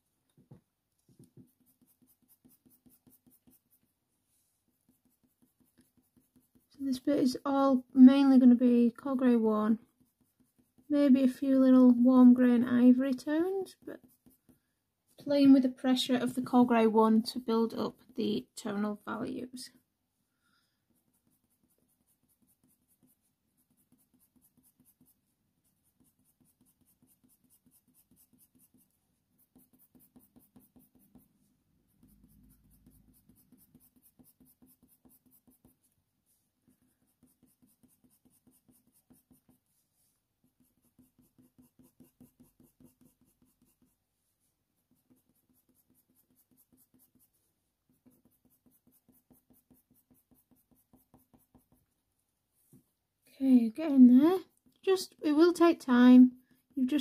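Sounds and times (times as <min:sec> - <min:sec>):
pencil scratching on paper: 0:01.0 - 0:14.7, 0:20.6 - 0:52.0, 0:54.1 - 0:57.0.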